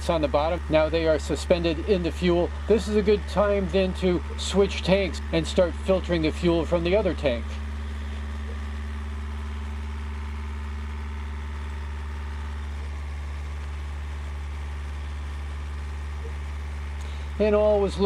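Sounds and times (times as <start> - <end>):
marine diesel engine humming: 0.0 - 18.0.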